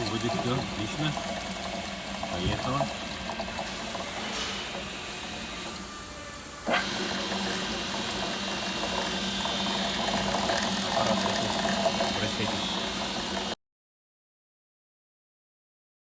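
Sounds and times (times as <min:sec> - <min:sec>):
dough mixer motor humming: 0:00.0 - 0:13.6
high-pitched machine whine: 0:00.0 - 0:13.6.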